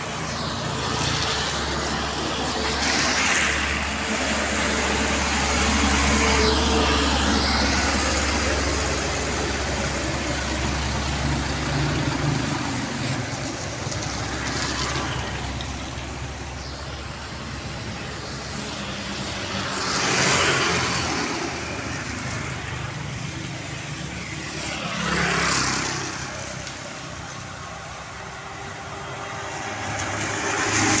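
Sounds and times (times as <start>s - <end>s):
tyres hissing through water: 0.0s - 31.0s
vehicles passing on wet road: 0.0s - 31.0s.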